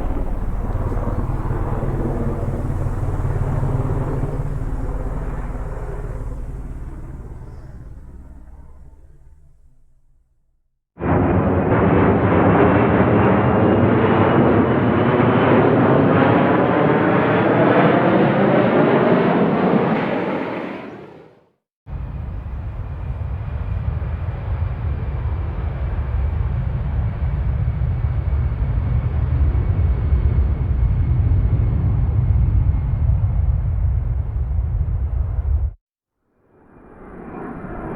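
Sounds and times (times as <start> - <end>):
jet airplane passing close: 0.0 - 9.9, 11.0 - 35.7, 36.6 - 37.9
low rumble of jet engines: 0.0 - 35.8, 36.5 - 37.9.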